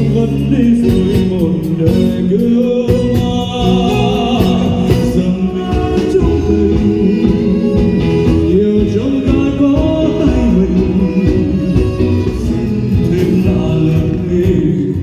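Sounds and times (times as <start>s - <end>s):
instrumental backing music: 0.0s - 15.0s
person singing: 0.0s - 15.0s.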